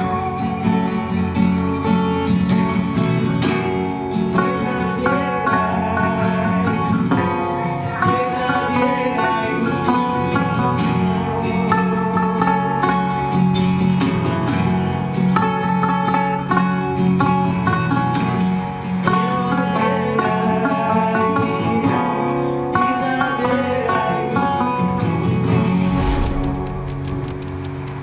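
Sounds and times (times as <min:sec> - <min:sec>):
acoustic guitars playing: 0:00.0 - 0:28.0.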